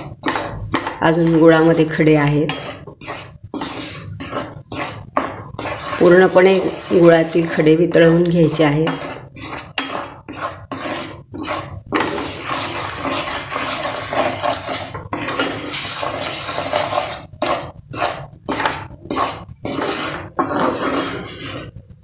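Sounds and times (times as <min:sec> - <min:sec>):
spatula scraping a frying pan: 0:00.0 - 0:22.0.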